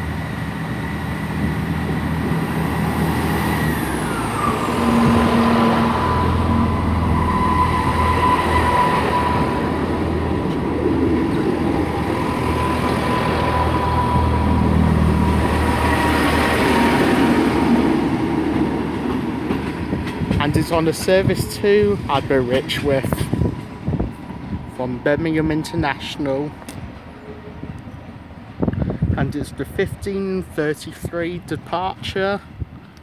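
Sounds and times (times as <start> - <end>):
diesel train engine drone: 0.0 - 33.0.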